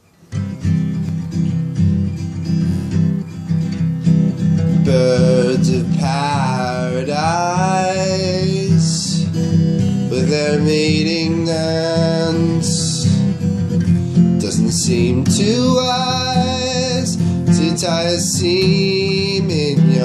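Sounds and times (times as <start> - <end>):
acoustic guitar strumming: 0.0 - 20.0
held wavering melody line: 0.6 - 19.4.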